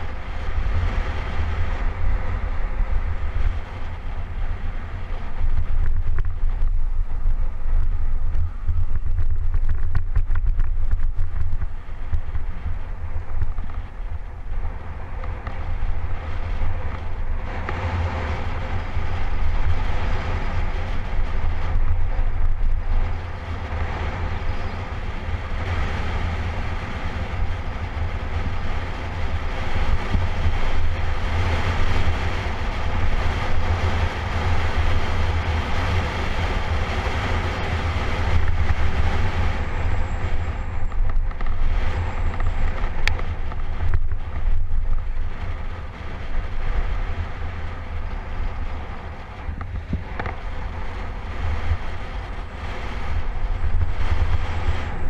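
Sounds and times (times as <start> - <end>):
road and tyre noise: 0.0 - 55.0
wind rushing over microphone: 0.0 - 55.0.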